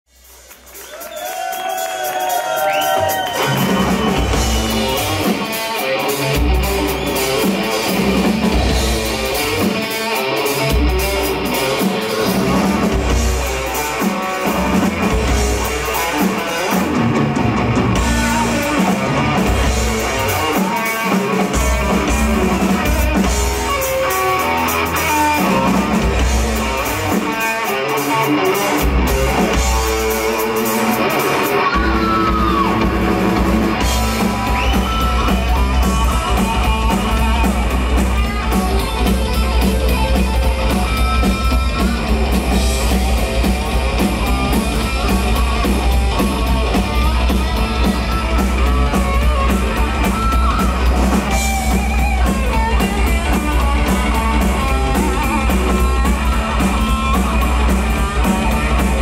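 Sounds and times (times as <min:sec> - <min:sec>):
drum kit: 0:00.1 - 0:59.0
electric guitar lead: 0:01.8 - 0:59.0.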